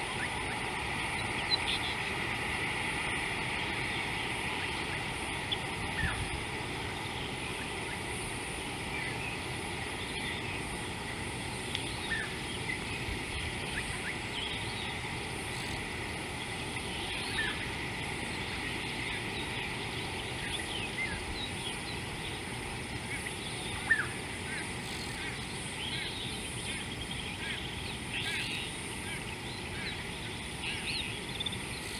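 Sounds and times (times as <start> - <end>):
birds chirping: 0.0 - 31.9
steady hiss: 0.0 - 31.9.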